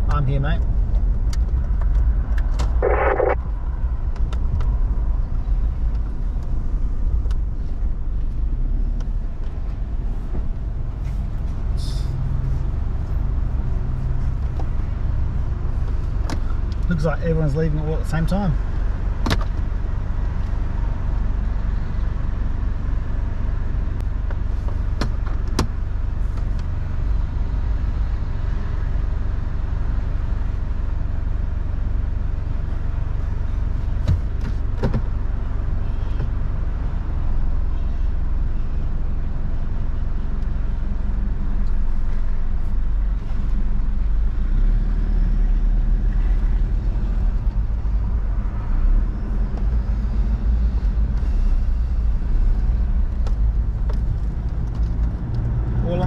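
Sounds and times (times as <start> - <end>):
engine rumbling: 0.0 - 56.0
vehicles passing: 0.0 - 56.0.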